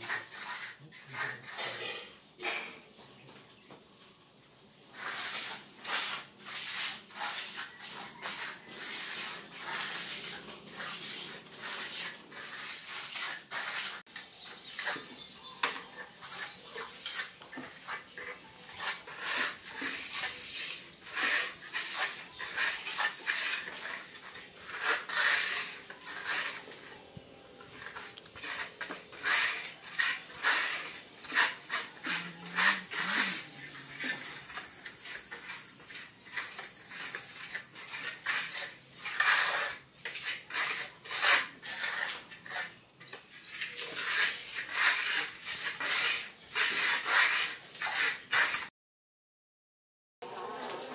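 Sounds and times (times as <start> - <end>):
trowel scraping cement floor: 0.0 - 3.4, 4.8 - 48.7, 50.2 - 50.9.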